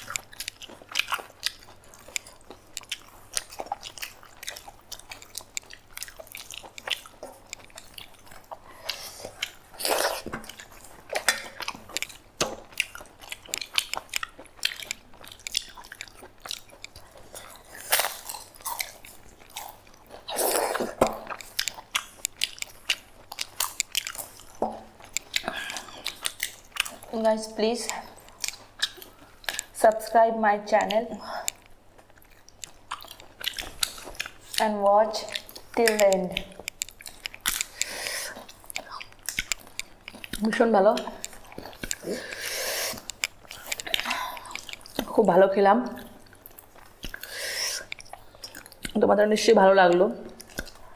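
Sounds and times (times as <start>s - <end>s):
mouth clicks and bites: 0.0s - 45.3s, 45.9s - 49.0s, 49.8s - 50.9s
wet chewing: 0.0s - 50.9s.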